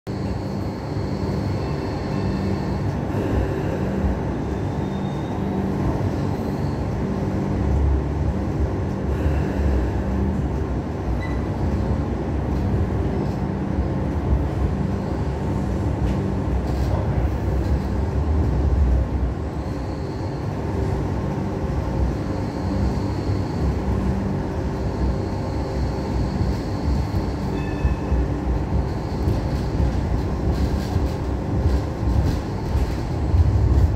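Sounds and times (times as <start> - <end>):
train low rumble: 0.1 - 33.9.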